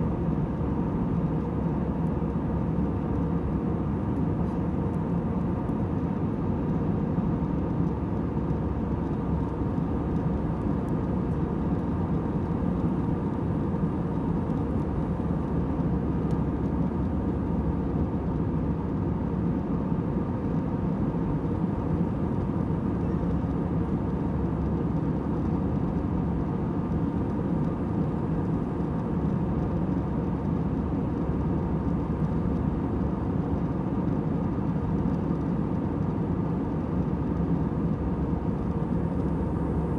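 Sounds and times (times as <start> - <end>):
airliner engines and airflow hum: 0.0 - 39.9.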